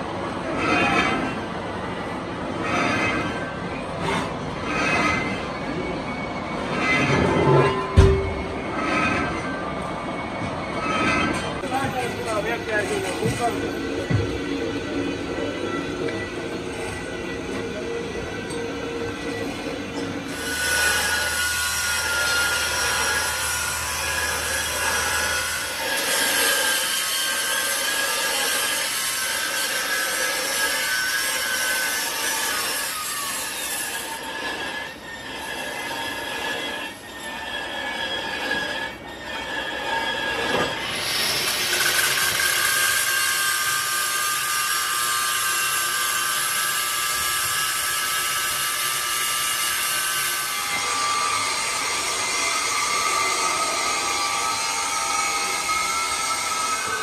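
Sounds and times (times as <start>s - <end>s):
machine tool squealing and grinding: 0.0s - 57.0s.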